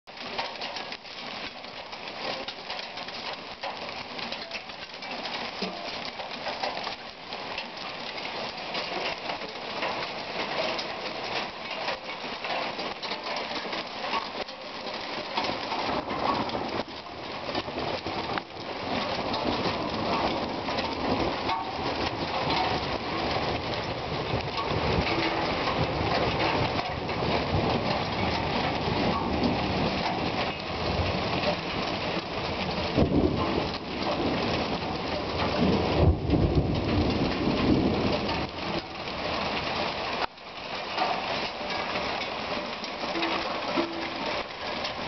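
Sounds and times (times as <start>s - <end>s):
rain pattering on grass and pavement: 0.0s - 45.0s.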